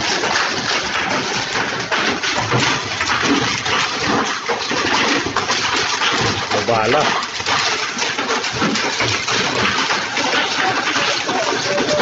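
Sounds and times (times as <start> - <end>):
hailstones pelting down: 0.0 - 12.0.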